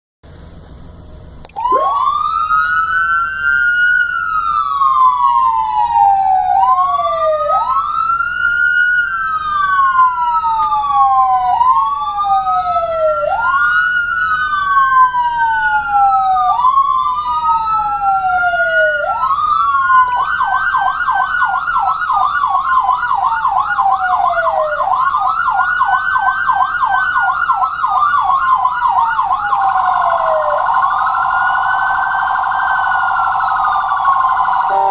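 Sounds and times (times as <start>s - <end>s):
electronic sirens wailing: 1.4s - 34.9s
siren fast yelp: 1.5s - 34.9s.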